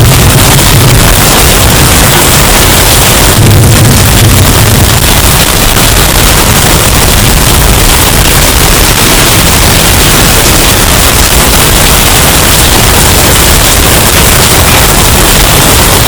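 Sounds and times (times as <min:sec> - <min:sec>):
distorted storm wind noise: 0:00.0 - 0:16.0.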